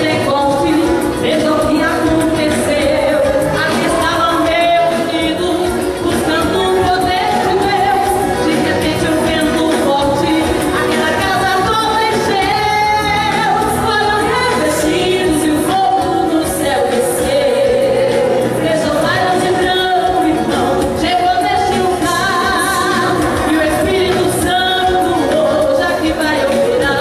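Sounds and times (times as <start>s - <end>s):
backing music with steady beat: 0.0s - 27.0s
woman singing into a microphone: 0.0s - 27.0s.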